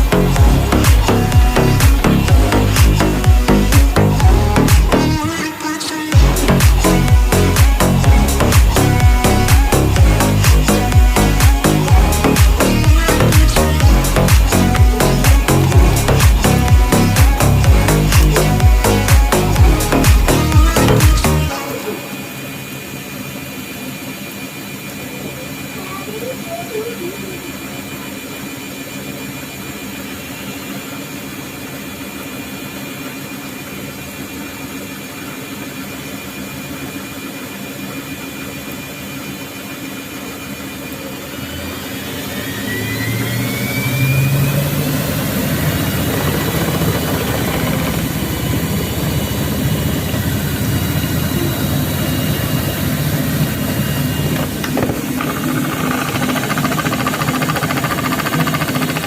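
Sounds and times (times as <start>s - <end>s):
drum motor rising whine: 0.0s - 5.5s, 6.1s - 59.0s
thin high whine: 0.0s - 59.0s
washing machine humming: 0.0s - 59.0s.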